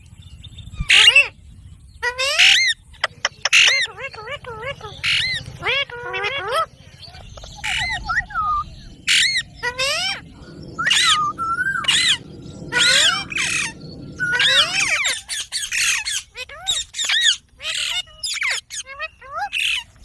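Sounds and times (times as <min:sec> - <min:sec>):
parakeet squawking: 0:00.8 - 0:01.3, 0:02.0 - 0:19.9.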